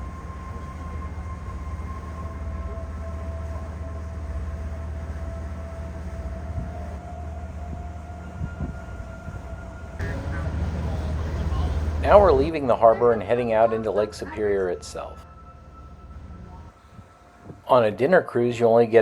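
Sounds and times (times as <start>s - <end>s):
boat engine rumble: 0.0s - 19.0s
faint steady whine: 0.0s - 19.0s.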